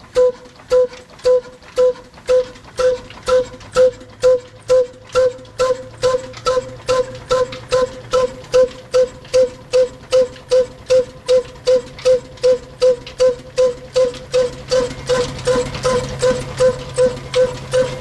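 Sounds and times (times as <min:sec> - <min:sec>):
diesel engine exhaust popping: 0:00.0 - 0:18.0
low mechanical hum: 0:00.0 - 0:18.0.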